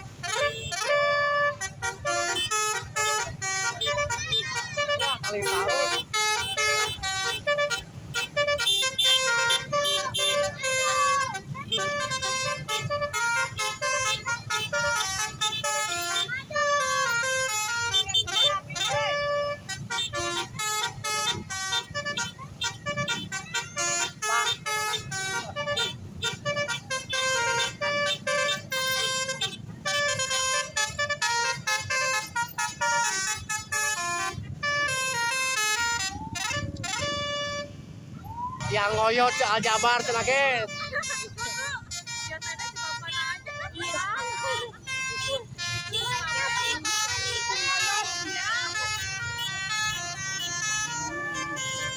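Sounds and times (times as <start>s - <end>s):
bus musical horn tune: 0.0s - 51.9s.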